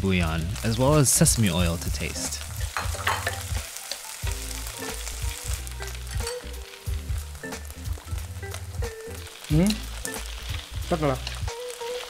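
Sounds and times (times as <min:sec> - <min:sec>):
food sizzling in wok: 0:00.0 - 0:12.0.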